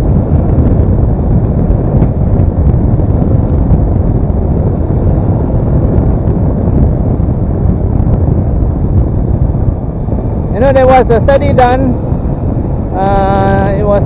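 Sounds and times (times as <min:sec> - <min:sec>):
motorcycle engine cruising: 0:00.0 - 0:14.0
road noise: 0:00.0 - 0:14.0
wind rumble on microphone: 0:00.0 - 0:14.0.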